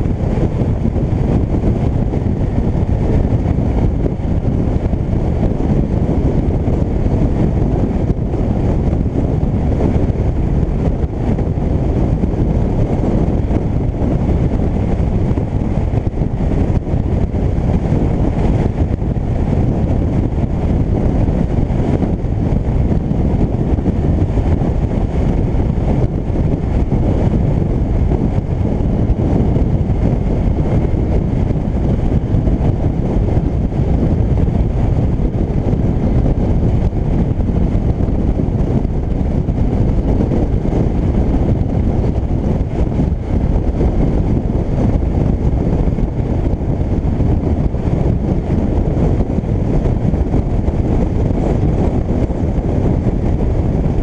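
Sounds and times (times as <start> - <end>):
motorcycle engine rumble: 0.0 - 54.0
wind buffeting microphone: 0.0 - 54.0.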